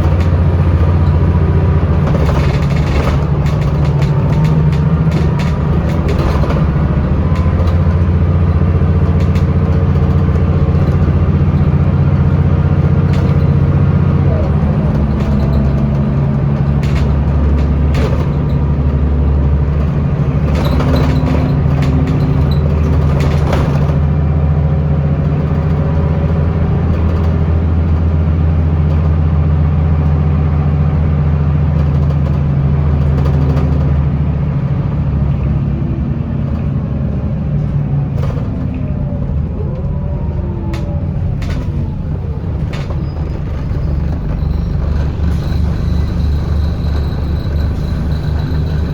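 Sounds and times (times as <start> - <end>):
body clicks and rattles: 0.0 - 48.9
bus engine drone: 0.0 - 48.9.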